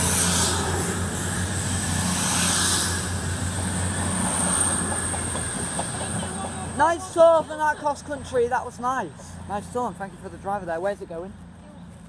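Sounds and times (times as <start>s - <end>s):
diesel train engine drone: 0.0s - 12.0s.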